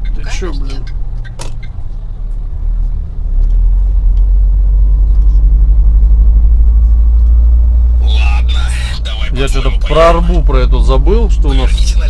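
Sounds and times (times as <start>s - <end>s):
truck diesel engine and road rumble: 0.0s - 12.0s.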